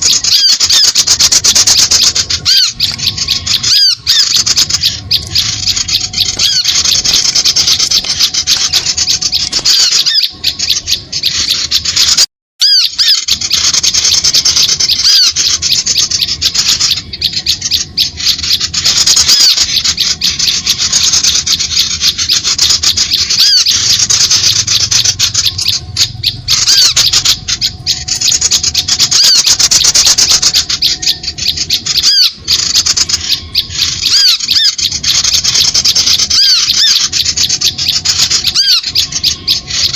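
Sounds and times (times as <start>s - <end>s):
small birds chattering: 0.0s - 39.9s.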